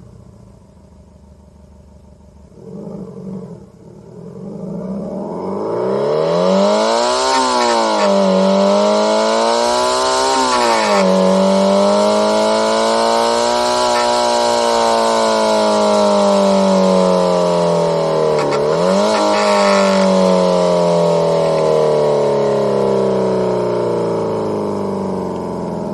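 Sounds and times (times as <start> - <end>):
synthesized engine revving: 2.5 - 25.9.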